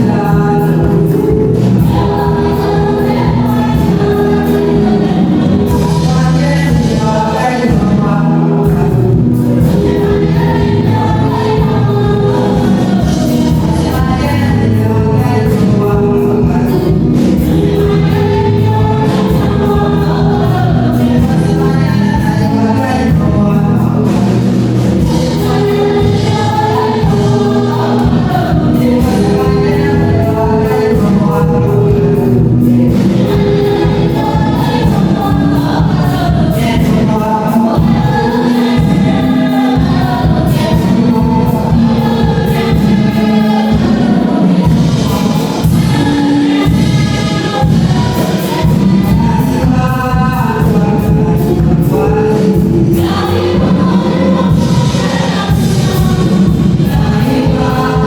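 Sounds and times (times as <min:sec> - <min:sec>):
choir singing gospel: 0:00.0 - 0:58.0
instrumental accompaniment: 0:00.0 - 0:58.0.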